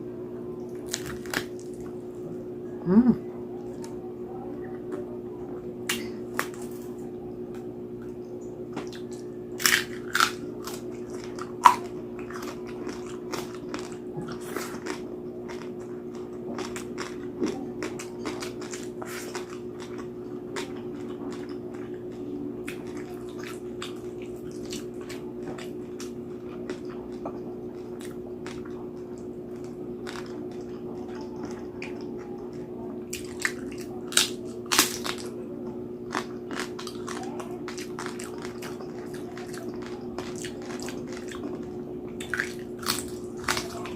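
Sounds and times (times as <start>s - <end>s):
low hum: 0.0s - 43.9s
crunching and chewing crispy skin: 0.7s - 2.0s, 8.8s - 43.9s.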